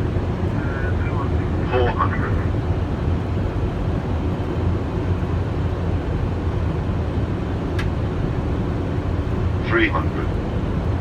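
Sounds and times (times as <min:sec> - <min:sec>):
airflow and engine noise in cockpit: 0:00.0 - 0:11.0.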